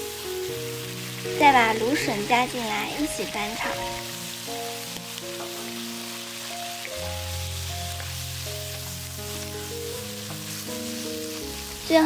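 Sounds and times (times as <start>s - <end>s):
background music with held notes: 0.0s - 12.0s
food sizzling in oil: 0.0s - 12.0s.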